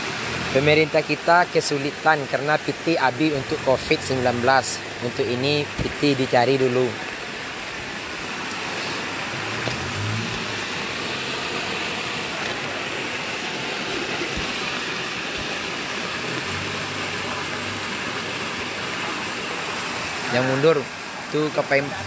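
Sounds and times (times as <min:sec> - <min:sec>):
vehicle engine hum: 0:00.0 - 0:01.3, 0:02.4 - 0:22.0
river water rushing: 0:00.0 - 0:22.0.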